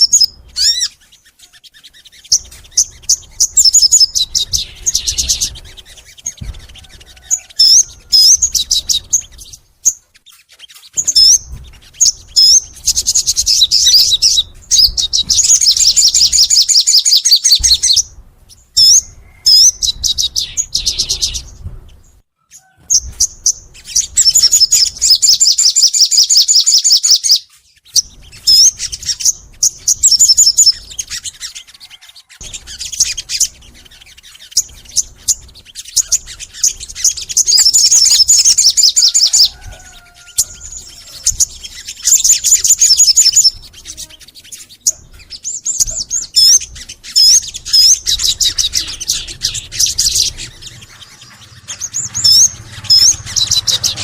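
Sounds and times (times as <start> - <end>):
songbird chirps and trills: 0.0 - 54.0.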